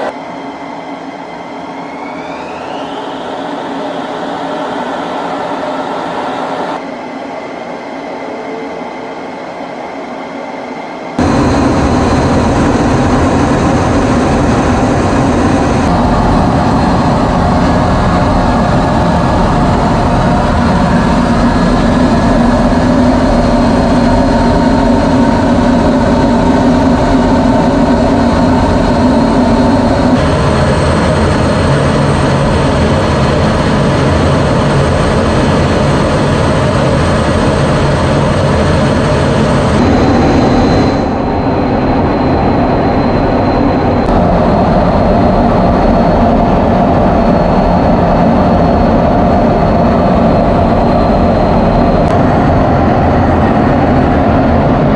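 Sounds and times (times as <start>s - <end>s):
jet engine running: 0.0s - 54.9s.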